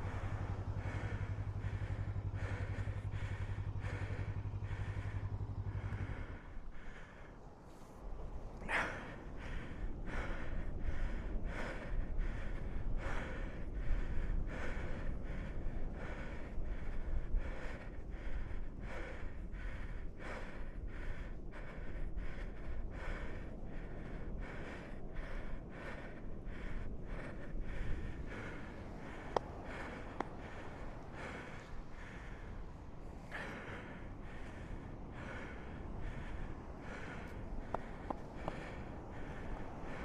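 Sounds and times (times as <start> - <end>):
low steady rumble: 0.0 - 40.0
man panting hard: 0.0 - 40.0.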